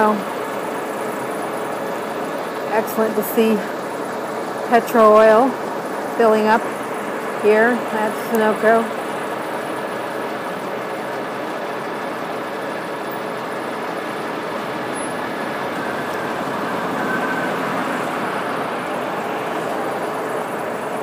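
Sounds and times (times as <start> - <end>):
tank truck pump droning: 0.0 - 21.0.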